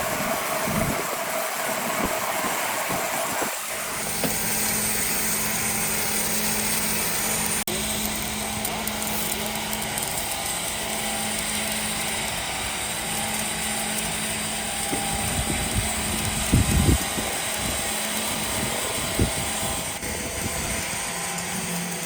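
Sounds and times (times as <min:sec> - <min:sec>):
machinery humming and hissing: 0:00.0 - 0:22.0.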